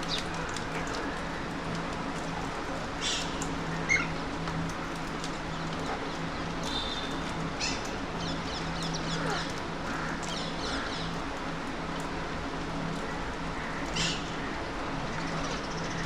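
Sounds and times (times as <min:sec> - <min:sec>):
city background noise: 0:00.0 - 0:16.0.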